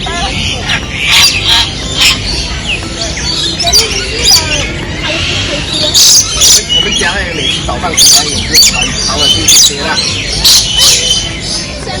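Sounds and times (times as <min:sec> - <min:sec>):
bird calls: 0:00.0 - 0:12.0
faint voices: 0:00.0 - 0:12.0
birds squawking harshly: 0:00.4 - 0:12.0.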